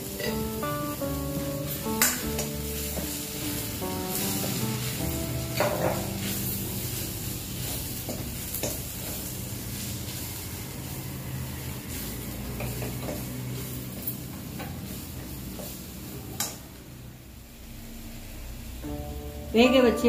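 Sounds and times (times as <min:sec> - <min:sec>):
masala sizzling in a pan: 0:00.0 - 0:20.0.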